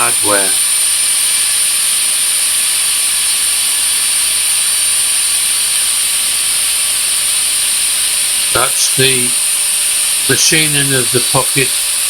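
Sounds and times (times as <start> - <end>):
router spindle whining: 0.0 - 12.0.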